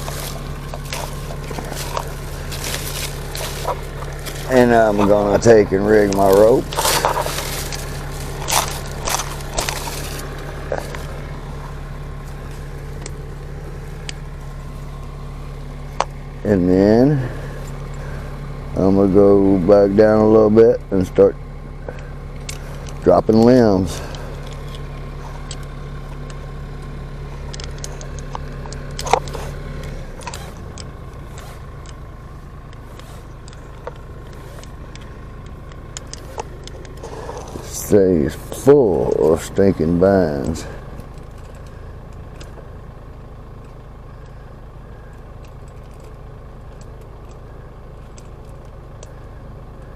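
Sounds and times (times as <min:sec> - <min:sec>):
sharp clicks: 0:00.0 - 0:16.4, 0:21.8 - 0:49.9
rope and branches crunching: 0:00.0 - 0:49.9
tractor engine idling: 0:00.0 - 0:49.9.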